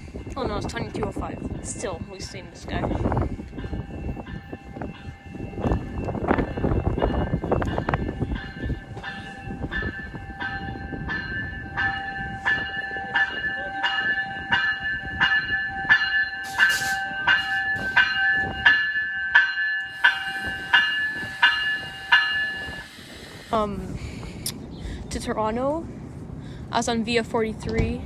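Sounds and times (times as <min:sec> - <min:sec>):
bell ringing steadily: 0:00.0 - 0:24.0
low rumble of a train: 0:00.0 - 0:28.0.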